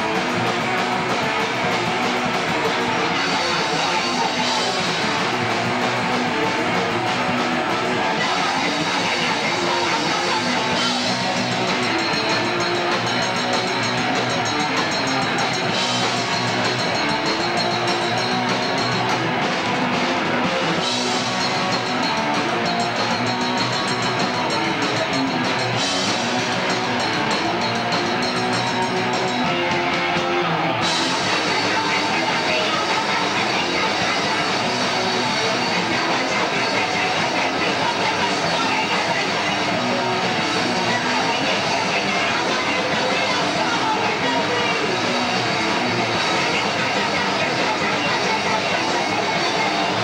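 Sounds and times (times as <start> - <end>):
drum kit: 0.0 - 50.0
electric guitar: 0.0 - 50.0.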